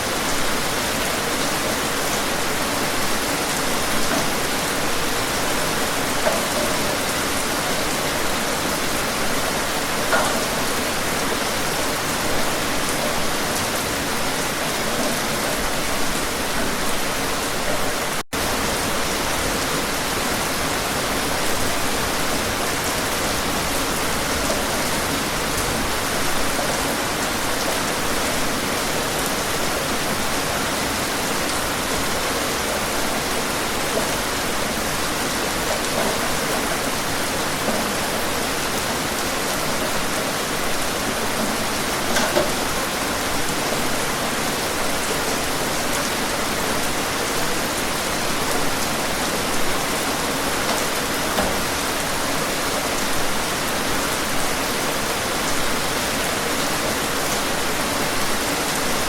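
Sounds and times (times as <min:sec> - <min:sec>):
individual raindrops: 0:00.0 - 0:59.0
rainfall hiss: 0:00.0 - 0:59.0.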